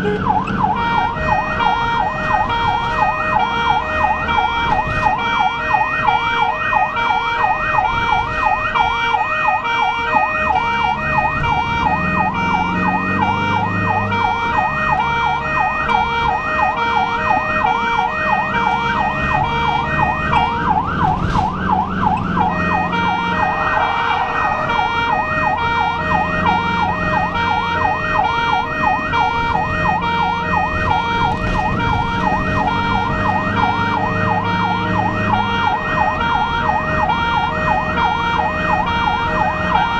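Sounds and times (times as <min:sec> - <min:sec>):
ambulance siren yelp: 0:00.0 - 0:39.9
engine and road noise: 0:00.0 - 0:39.9.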